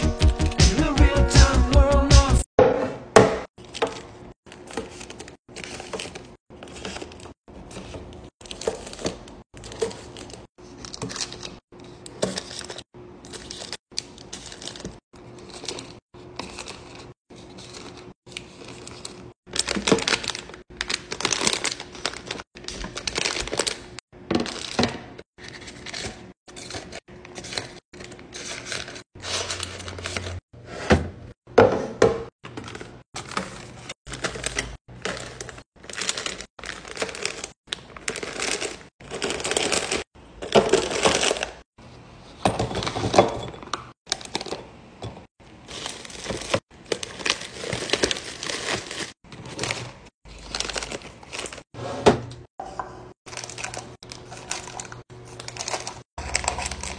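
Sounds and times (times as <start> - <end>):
plastic wrappers crinkling: 3.6 - 30.4, 32.4 - 41.7, 44.1 - 44.7, 45.5 - 51.8, 53.2 - 56.9.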